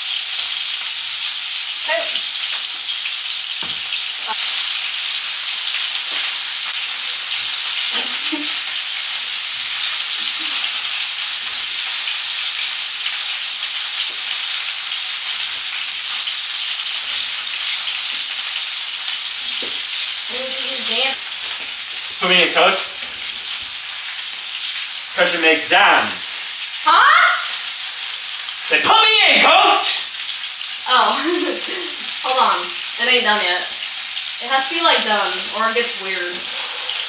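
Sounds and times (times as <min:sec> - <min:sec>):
chicken sizzling in a pan: 0:00.0 - 0:37.0.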